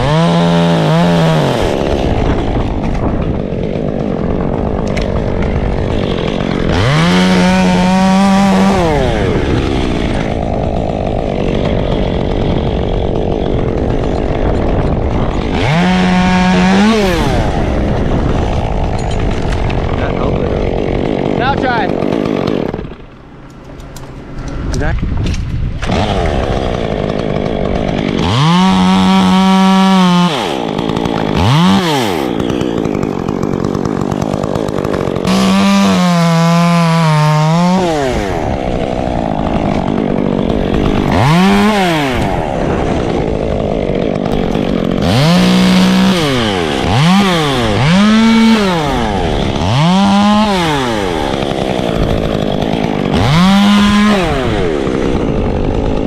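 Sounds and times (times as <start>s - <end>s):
chainsaw revving: 0.0s - 25.0s, 25.7s - 56.0s.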